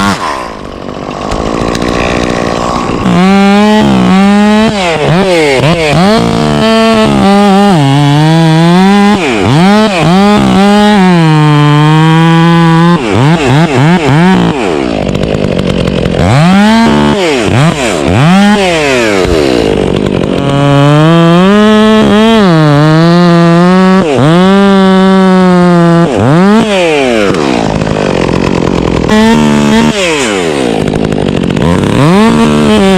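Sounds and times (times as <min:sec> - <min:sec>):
chainsaw revving: 0:00.0 - 0:32.9.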